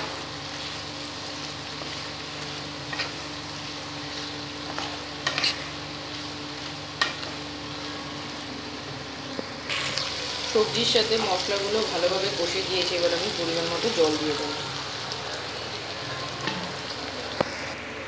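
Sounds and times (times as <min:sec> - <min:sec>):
food sizzling in oil: 0:00.0 - 0:17.8.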